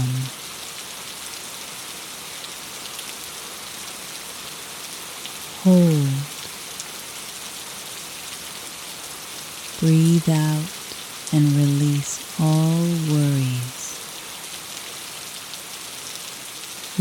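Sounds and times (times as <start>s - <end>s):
rain on a window: 0.0s - 17.0s.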